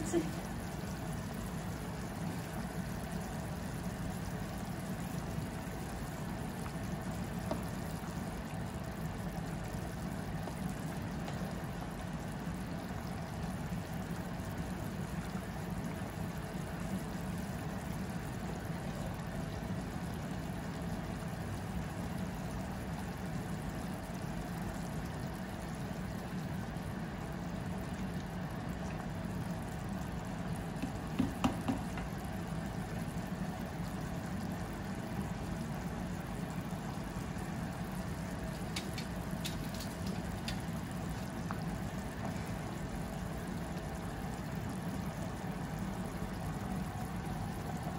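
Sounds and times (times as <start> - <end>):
soup bubbling in a pot: 0.0 - 47.9.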